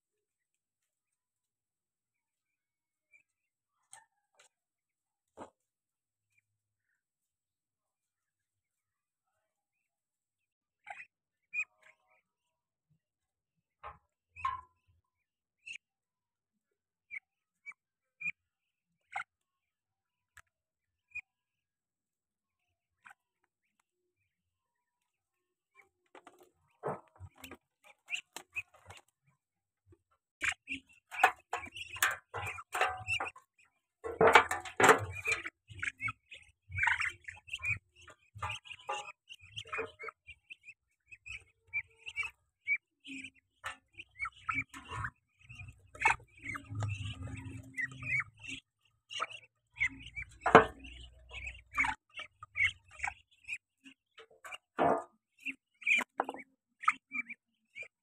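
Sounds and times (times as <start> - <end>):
ducklings peeping: 2.2 - 4.6, 8.0 - 12.6, 14.0 - 15.9, 17.1 - 19.4, 22.6 - 58.0.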